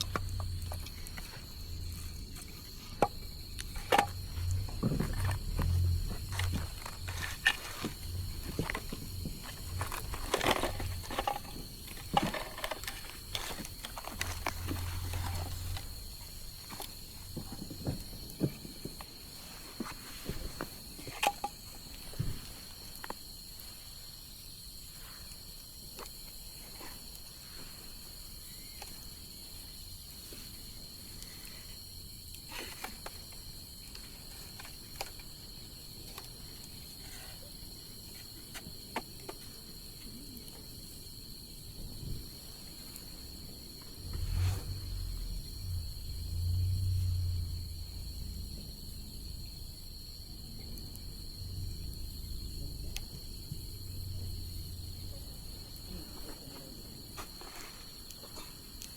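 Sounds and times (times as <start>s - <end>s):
high insect trill: 0.0s - 58.9s.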